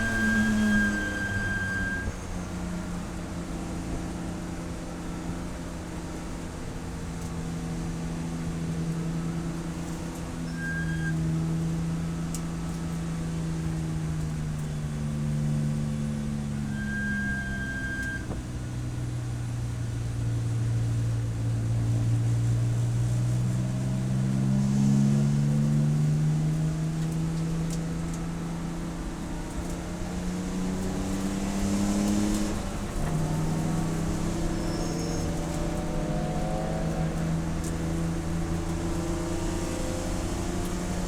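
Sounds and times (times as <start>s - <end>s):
race car engine: 0.0s - 41.0s.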